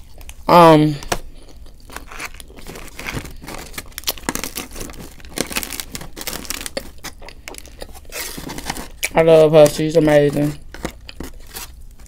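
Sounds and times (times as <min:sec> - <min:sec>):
paper packaging crinkling: 0:01.4 - 0:12.0.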